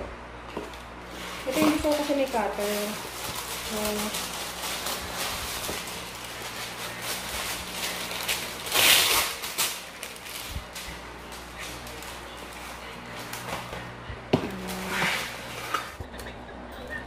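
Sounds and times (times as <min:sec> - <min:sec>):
parchment paper rustling: 0:00.5 - 0:16.0.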